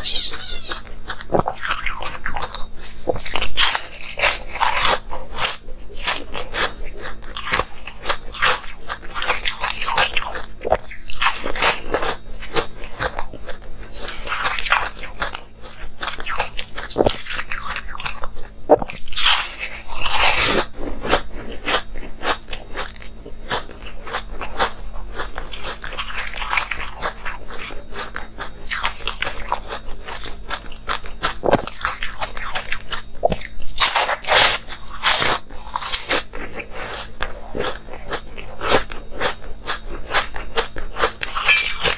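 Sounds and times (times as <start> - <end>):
crunching and chewing ice: 0.0 - 41.9.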